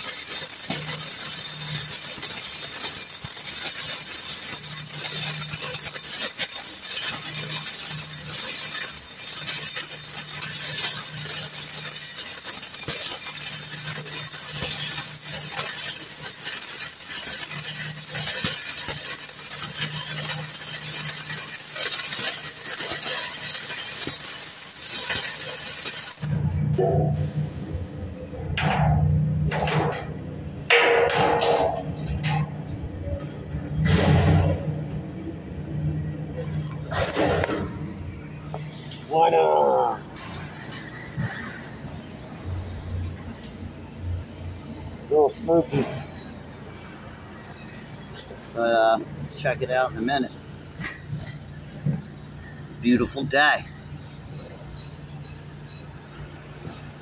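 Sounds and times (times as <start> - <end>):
welding arc crackling sizzle: 0.0 - 57.0.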